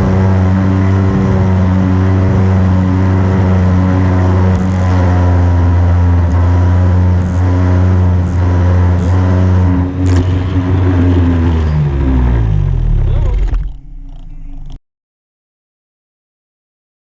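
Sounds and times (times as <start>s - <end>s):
small engine running steadily: 0.0s - 14.8s.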